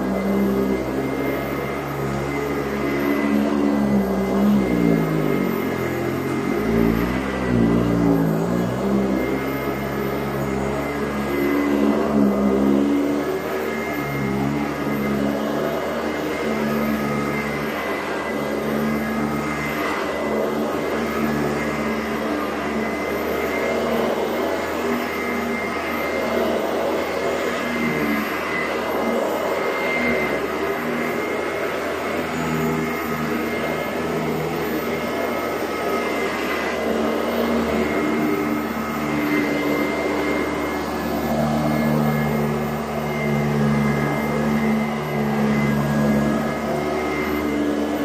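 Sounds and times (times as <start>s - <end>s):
upright vacuum cleaner running: 0.0s - 48.0s.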